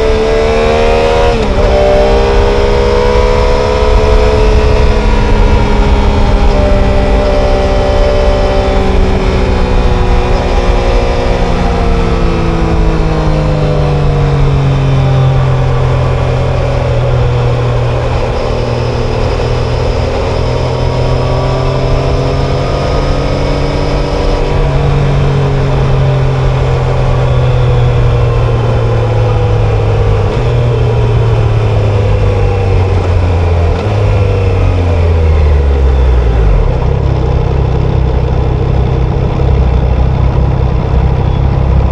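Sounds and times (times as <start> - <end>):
motorcycle engine and exhaust: 0.0 - 41.9.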